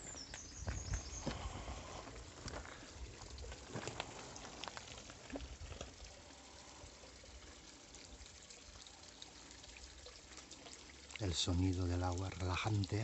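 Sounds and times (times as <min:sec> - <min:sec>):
water trickling into stone basin: 0:00.0 - 0:13.0.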